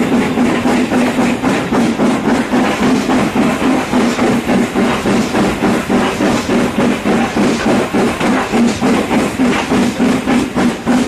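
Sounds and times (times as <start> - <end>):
steam locomotive exhaust beats: 0.0 - 11.0
wheels running on rails: 0.0 - 11.0.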